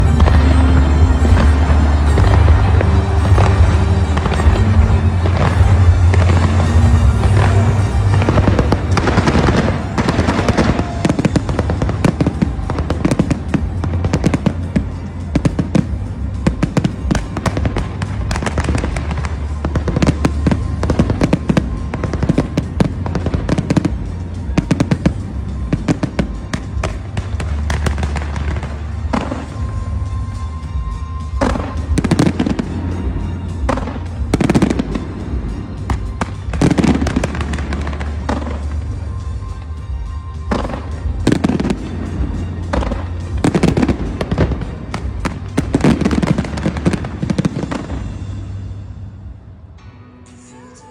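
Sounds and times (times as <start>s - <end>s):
fireworks bangs and crackles: 0.0s - 49.1s
music playing: 0.0s - 50.9s.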